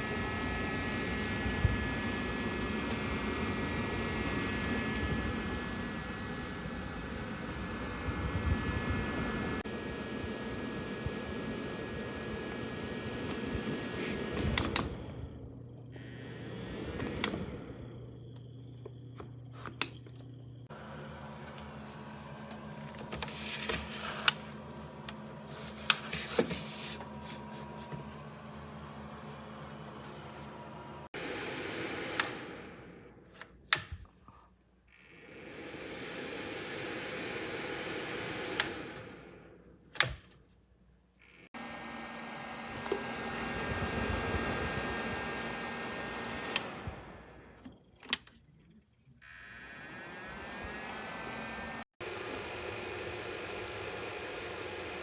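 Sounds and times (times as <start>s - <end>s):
space heater fan humming: 0.0s - 55.0s.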